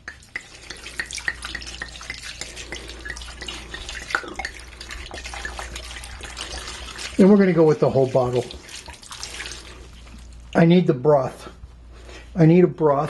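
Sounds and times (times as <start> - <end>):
wine pouring into a pot: 0.0 - 10.6.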